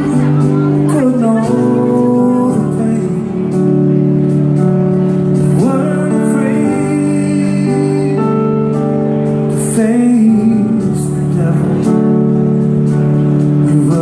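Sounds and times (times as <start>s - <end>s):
man singing: 0.0s - 4.0s, 5.4s - 12.7s, 13.4s - 14.0s
band playing country ballad: 0.0s - 14.0s.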